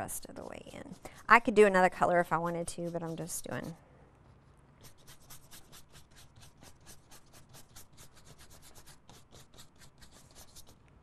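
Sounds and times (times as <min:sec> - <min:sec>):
paintbrush scrubbing on paper: 0:00.0 - 0:03.8, 0:04.8 - 0:10.8.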